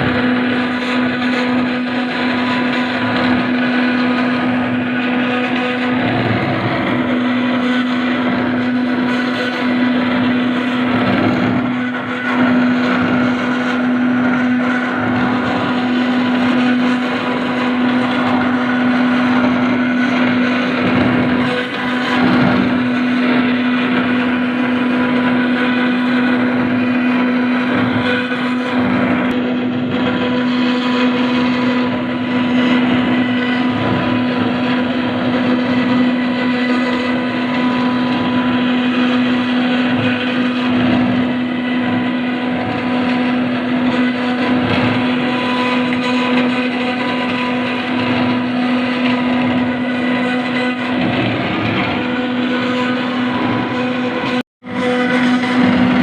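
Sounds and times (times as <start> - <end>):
bit grinding into stone: 0.0 - 56.0
router spindle running: 0.0 - 56.0.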